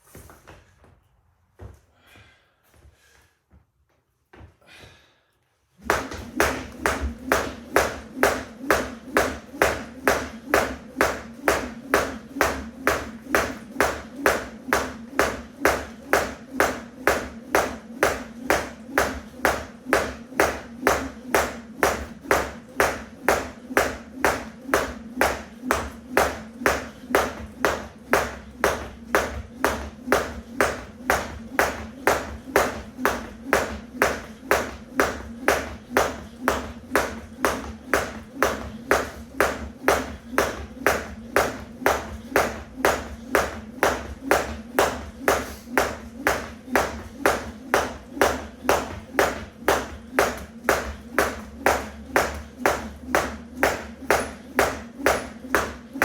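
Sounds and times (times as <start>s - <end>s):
jump rope slapping the floor: 5.8s - 56.0s.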